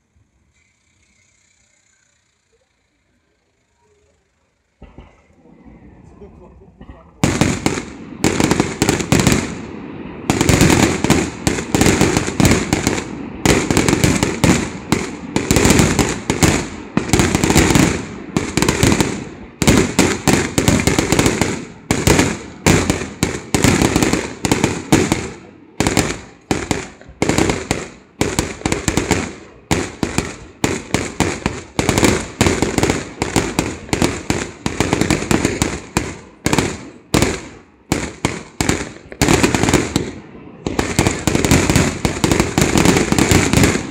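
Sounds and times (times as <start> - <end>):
fireworks bursting and crackling: 0.0 - 43.9.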